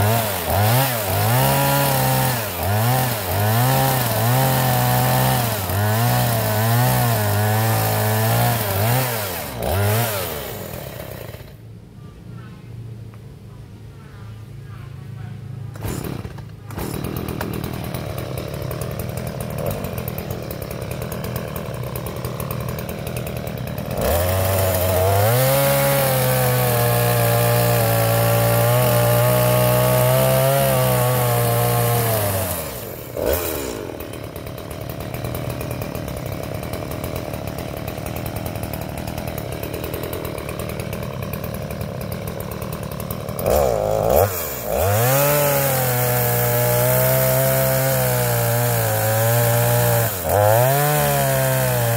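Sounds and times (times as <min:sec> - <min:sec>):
chainsaw idling and revving: 0:00.0 - 0:11.7, 0:15.7 - 0:51.9.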